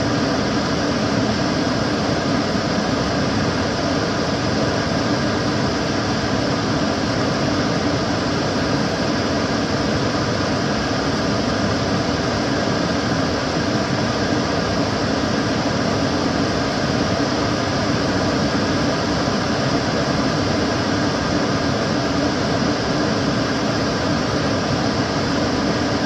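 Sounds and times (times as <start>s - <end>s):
extractor fan running: 0.0s - 26.0s.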